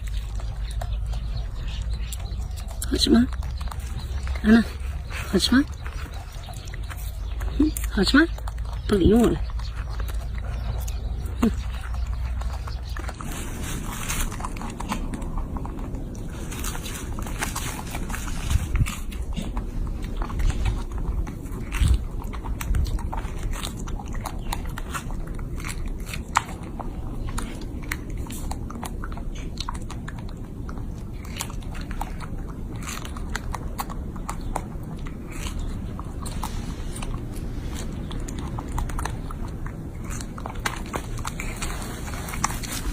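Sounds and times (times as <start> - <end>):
low rumble: 0.0 - 42.9
monkey chewing food: 0.0 - 42.9.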